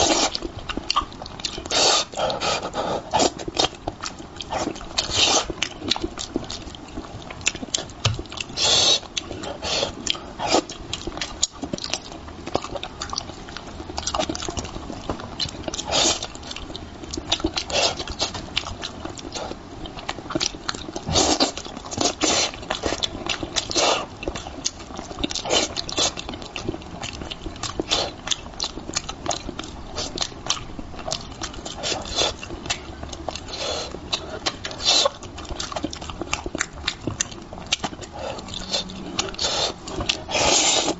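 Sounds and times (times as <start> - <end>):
person chewing and smacking: 0.0 - 40.9.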